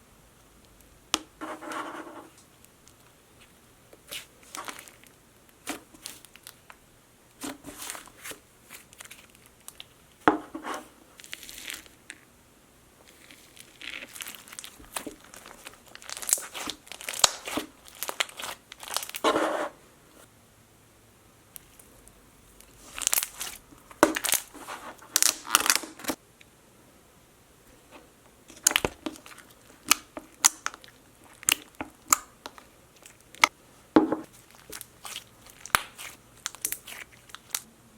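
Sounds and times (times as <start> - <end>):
crinkling handling sounds: 1.4 - 12.2, 13.0 - 20.3, 21.6 - 26.2, 27.7 - 37.7.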